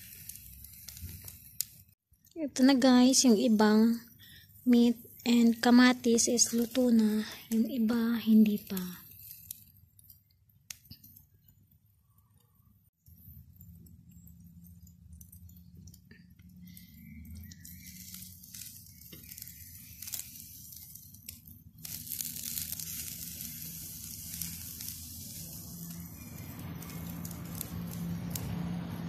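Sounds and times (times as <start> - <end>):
meat sizzling on a grill: 0.0 - 2.0, 2.6 - 29.0
embers crackling: 0.0 - 29.0.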